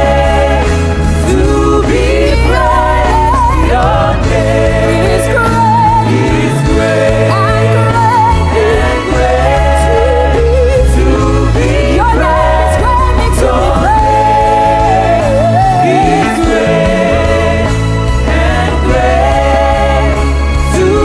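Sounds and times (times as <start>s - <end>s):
band with heavy bass: 0.0s - 21.0s.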